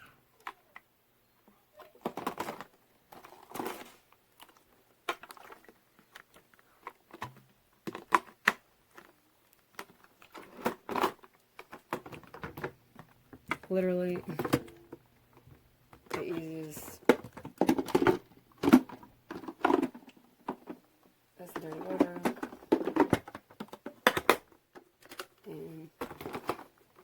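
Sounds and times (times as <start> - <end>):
plastic parts clicking and rattling: 1.7 - 27.0.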